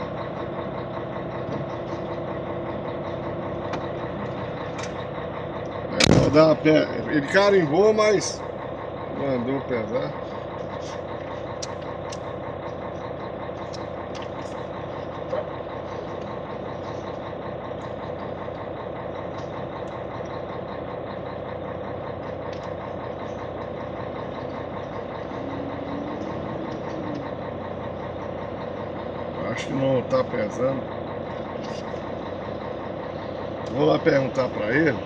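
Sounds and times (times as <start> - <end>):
truck diesel engine idling: 0.0 - 35.0.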